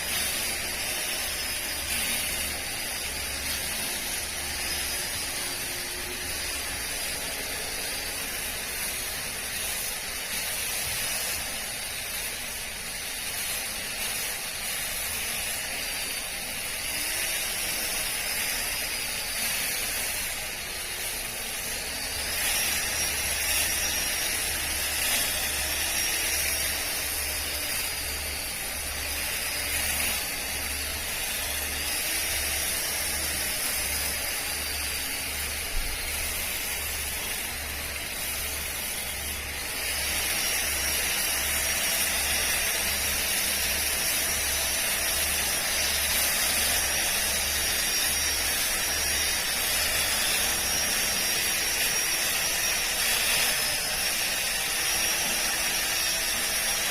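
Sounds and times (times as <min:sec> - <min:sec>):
grass trimmer motor whine: 0:00.0 - 0:56.9
trimmer head cutting grass: 0:00.0 - 0:56.9.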